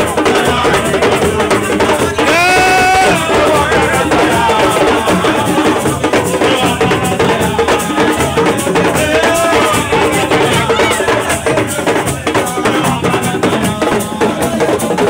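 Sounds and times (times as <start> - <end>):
shaken rattle percussion: 0.0 - 15.0
steady drumming: 0.0 - 15.0.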